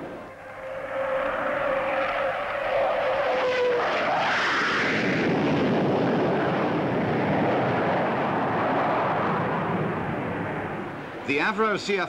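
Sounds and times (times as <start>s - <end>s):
jet engine whine: 0.0s - 12.0s
rushing jet noise: 0.0s - 12.0s.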